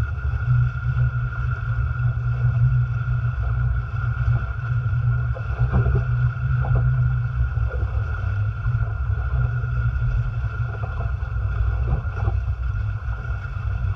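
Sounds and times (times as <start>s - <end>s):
water rushing along hulls: 0.0s - 13.9s
waves slapping hulls: 0.0s - 13.9s.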